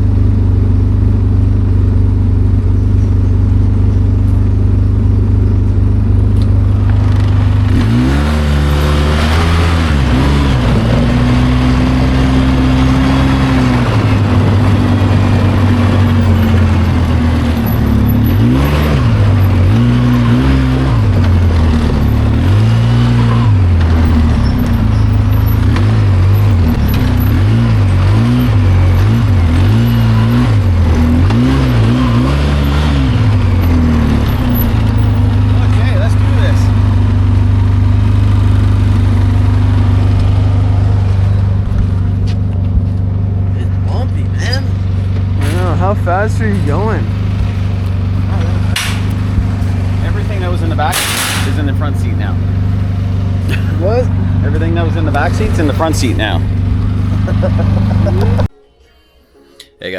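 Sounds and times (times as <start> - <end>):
vehicle engine revving: 0.0 - 58.6.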